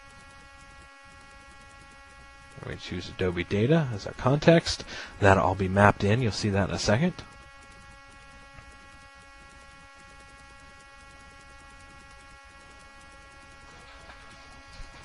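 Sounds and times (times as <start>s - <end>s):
low buzzy electrical hum: 0.0s - 15.0s.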